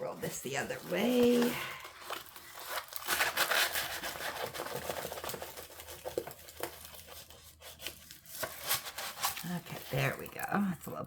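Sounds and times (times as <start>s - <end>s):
canvas and plastic film crinkling: 0.0s - 11.0s.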